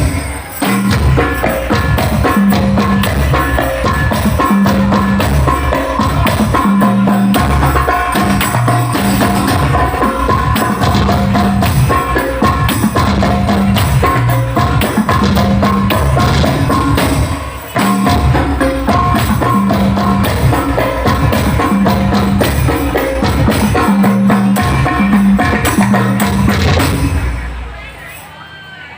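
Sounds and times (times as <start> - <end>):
frame drum percussion music: 0.0 - 27.7.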